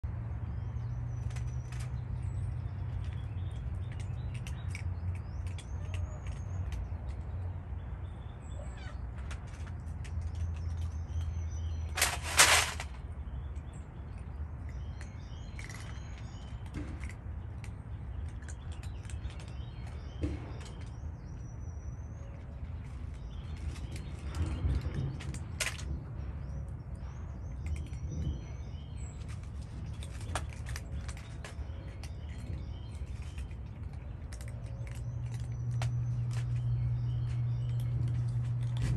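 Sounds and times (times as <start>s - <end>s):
low steady rumble: 0.0s - 38.9s
small birds chirping: 0.0s - 38.9s.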